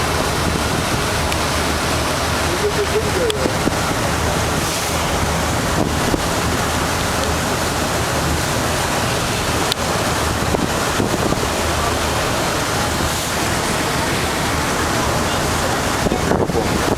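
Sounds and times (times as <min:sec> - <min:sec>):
ferry engine drone: 0:00.0 - 0:16.9
water rushing past boat: 0:00.0 - 0:16.9
wind buffeting microphone: 0:00.0 - 0:16.9.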